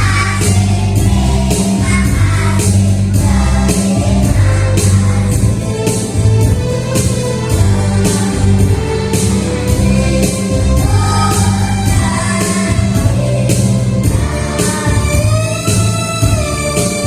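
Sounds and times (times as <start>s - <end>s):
accompaniment music with beat: 0.0s - 17.0s
children's choir singing: 0.0s - 17.0s.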